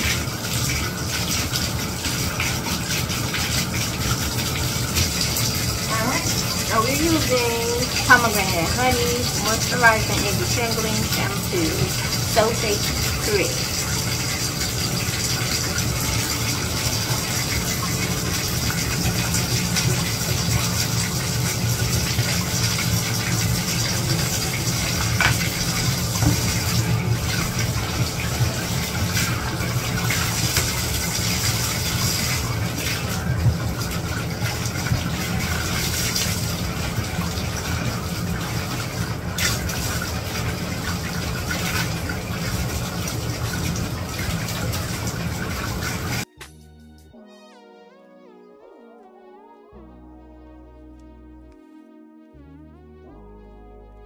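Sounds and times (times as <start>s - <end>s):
water pouring into a tub: 0.0s - 46.3s.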